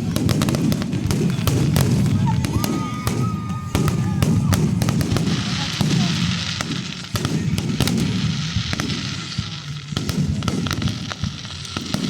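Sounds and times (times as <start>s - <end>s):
fireworks cracks and pops: 0.0s - 12.0s.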